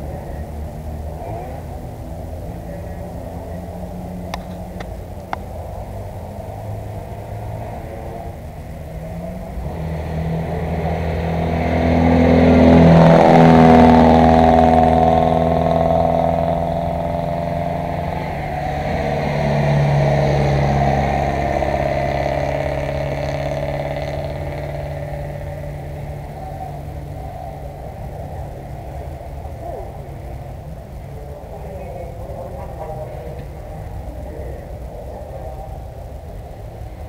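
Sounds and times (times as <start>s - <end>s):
car engines passing at speed: 0.0s - 37.0s.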